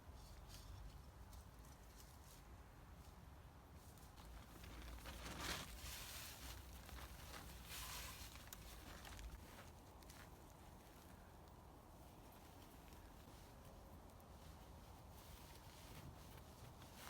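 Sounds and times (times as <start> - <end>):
soft rustling handling sounds: 0.0 - 17.0.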